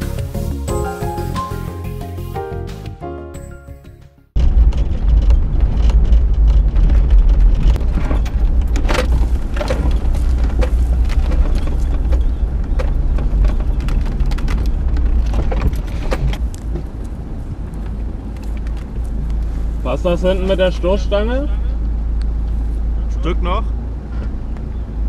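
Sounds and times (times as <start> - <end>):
off-road vehicle rumbling: 0.0 - 2.8, 4.3 - 25.0.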